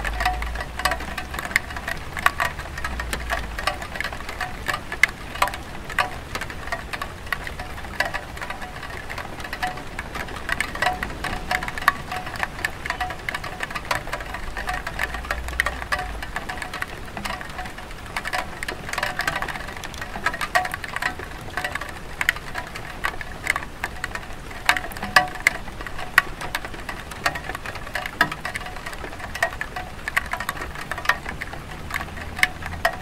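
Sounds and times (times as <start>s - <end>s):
raindrops tapping on roof: 0.0s - 33.0s
soft hiss of rain: 0.0s - 33.0s.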